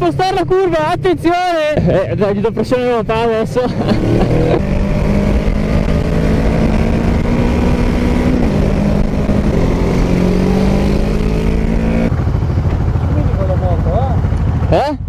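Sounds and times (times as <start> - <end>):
motorcycle engine running: 0.0 - 15.0
wind rumble: 2.5 - 14.7.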